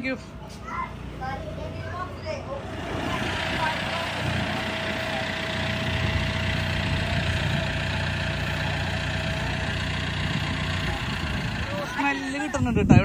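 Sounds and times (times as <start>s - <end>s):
tractor diesel engine idling: 0.0s - 12.8s.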